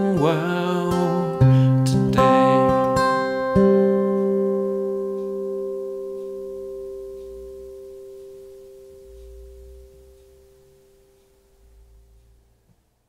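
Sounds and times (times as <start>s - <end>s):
acoustic guitar chord ringing: 0.0s - 12.6s.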